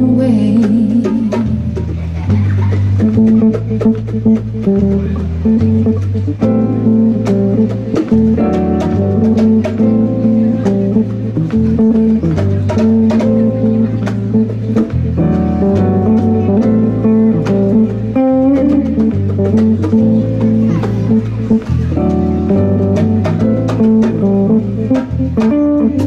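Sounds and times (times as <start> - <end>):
electric bass: 0.0 - 26.0
guitar: 0.0 - 26.0
keyboard: 0.0 - 26.0.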